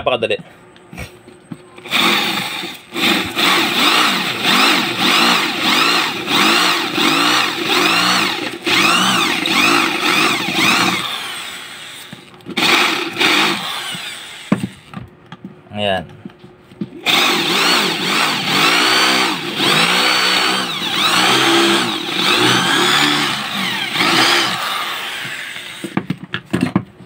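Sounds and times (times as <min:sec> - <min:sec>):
electric drill drilling metal: 0:01.8 - 0:14.9, 0:17.0 - 0:26.1.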